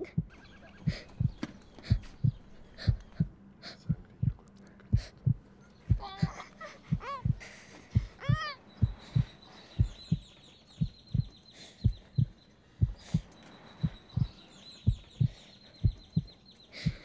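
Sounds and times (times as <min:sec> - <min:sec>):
faint high chirping: 0:00.0 - 0:17.0
heartbeat thumps: 0:00.0 - 0:17.0.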